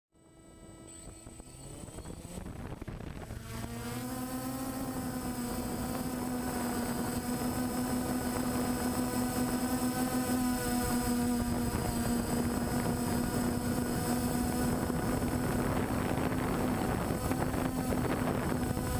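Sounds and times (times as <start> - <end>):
engine winding up: 0.2 - 18.9.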